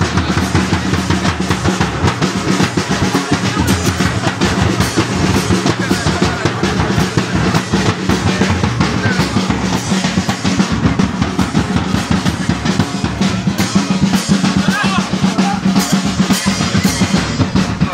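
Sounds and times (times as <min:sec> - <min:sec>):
loud fast drumming: 0:00.0 - 0:17.9.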